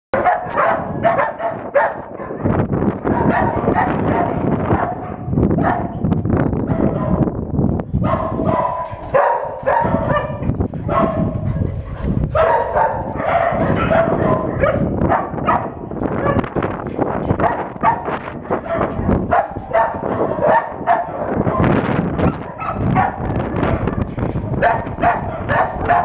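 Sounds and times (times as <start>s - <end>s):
dogs barking: 0.1s - 7.4s, 8.0s - 26.0s.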